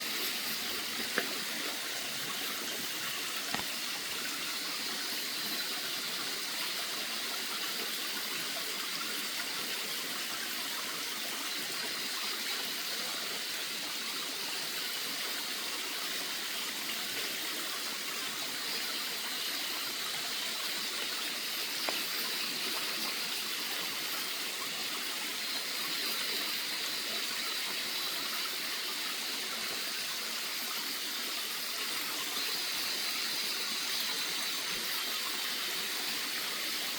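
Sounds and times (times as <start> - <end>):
running water rushing: 0.0 - 36.9.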